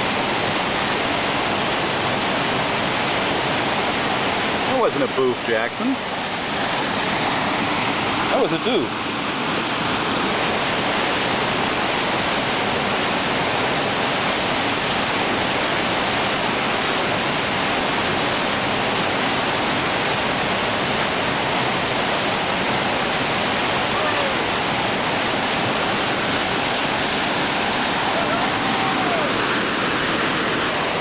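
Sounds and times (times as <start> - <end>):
rapid water rushing: 0.0 - 31.0.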